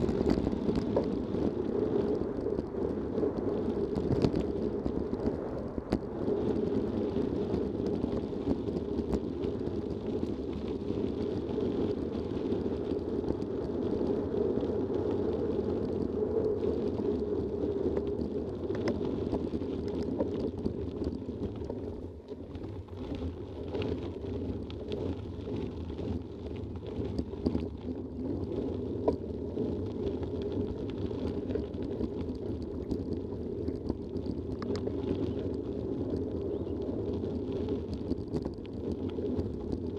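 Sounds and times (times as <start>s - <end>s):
small clicks and rattles: 0.0s - 39.9s
tyre rumble over gravel: 0.0s - 39.9s
wind on microphone: 0.0s - 39.9s.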